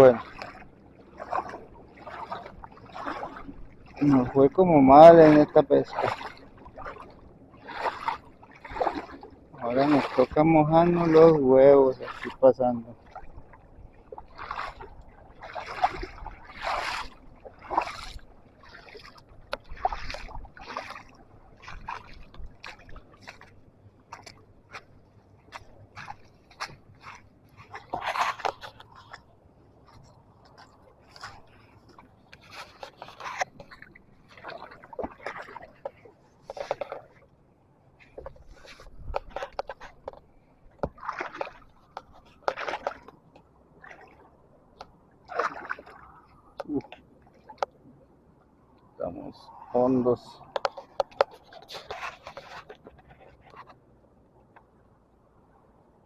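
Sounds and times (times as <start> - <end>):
people wading through water: 0.0 - 55.5.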